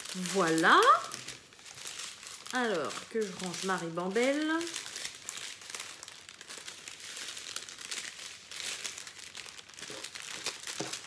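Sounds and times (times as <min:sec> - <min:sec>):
plastic sachets crinkling: 0:00.0 - 0:11.0.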